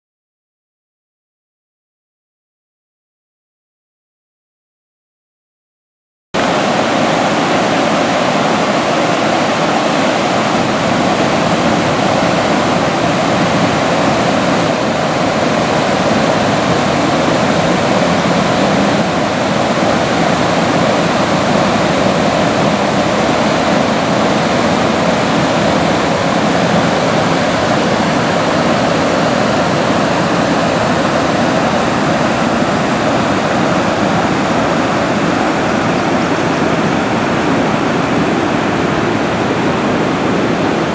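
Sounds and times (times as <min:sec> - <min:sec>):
floodwater rushing: 0:06.4 - 0:40.9.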